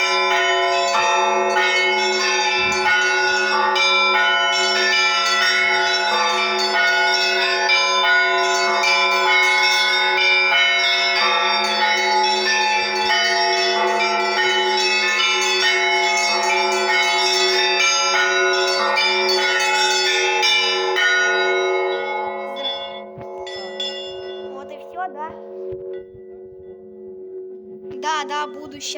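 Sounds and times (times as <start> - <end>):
small bells struck: 0.0 - 26.9
large bells ringing: 0.0 - 28.9.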